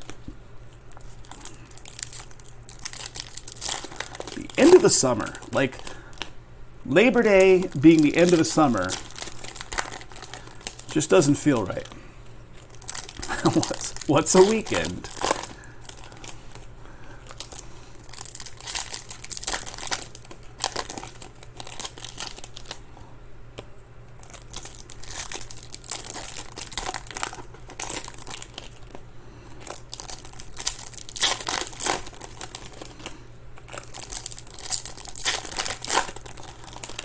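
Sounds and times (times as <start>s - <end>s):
foil wrappers tearing and crinkling: 0.8s - 6.3s, 6.9s - 12.0s, 12.6s - 22.9s, 24.2s - 37.0s.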